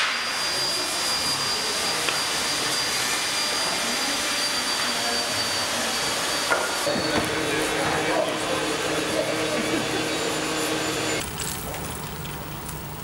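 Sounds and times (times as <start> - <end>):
faint high whine: 0.0 - 11.2
woodworking machinery running: 0.0 - 13.0.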